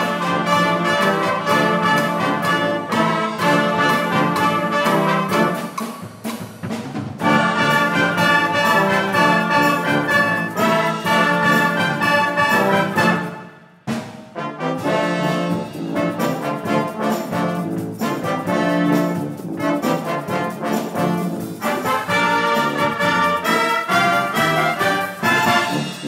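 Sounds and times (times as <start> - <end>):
brass band playing a hymn: 0.0 - 5.9, 7.2 - 13.6, 14.3 - 26.0.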